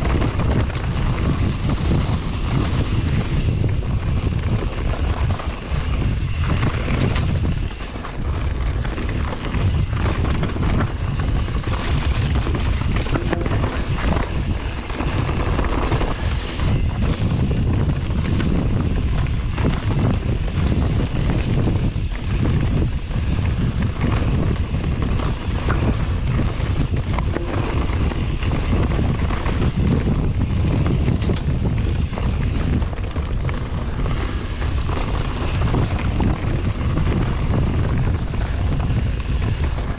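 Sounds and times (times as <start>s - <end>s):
bike rattles and knocks: 0.0s - 39.9s
tyres rumbling on dirt trail: 0.0s - 39.9s
wind buffeting microphone: 0.0s - 39.9s.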